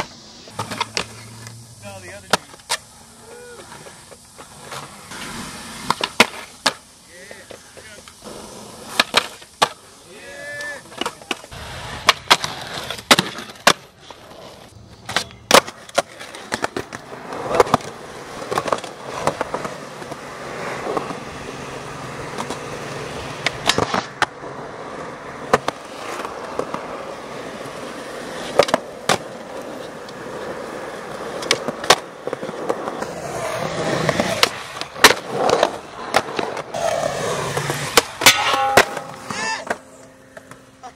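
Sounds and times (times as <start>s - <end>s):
skateboard clacks: 0.0s - 2.8s, 3.5s - 40.9s
skateboards rolling on concrete: 0.0s - 40.9s.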